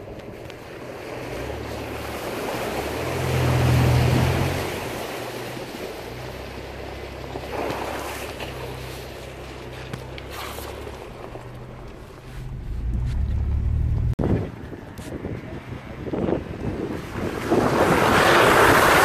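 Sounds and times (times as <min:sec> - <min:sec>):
vehicle engine drone: 0:00.0 - 0:16.6
water and mud splashing: 0:00.0 - 0:19.0.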